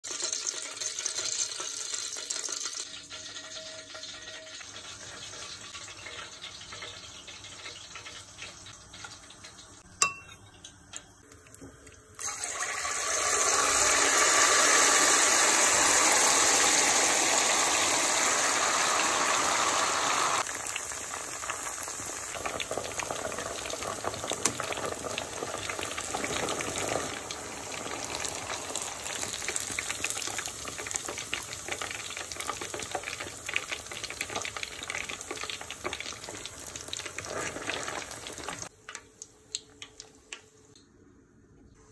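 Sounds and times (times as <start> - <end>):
oil sizzling and bubbling: 0.0 - 41.0.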